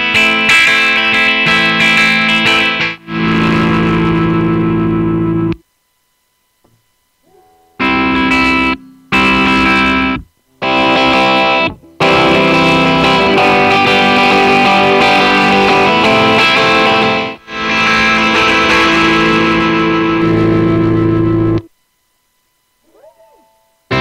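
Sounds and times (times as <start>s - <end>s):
electric guitar chords: 0.0s - 5.6s, 7.2s - 21.7s, 22.8s - 24.0s.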